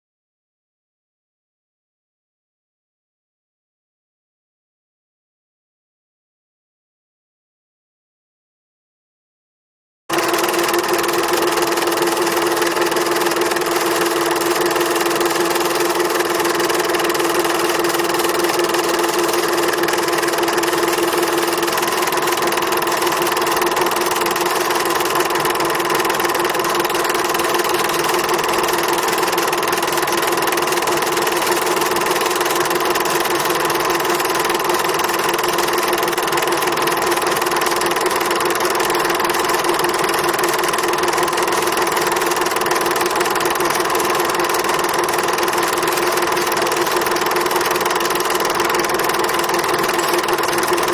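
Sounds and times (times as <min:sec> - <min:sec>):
motor humming steadily: 0:10.1 - 0:50.9.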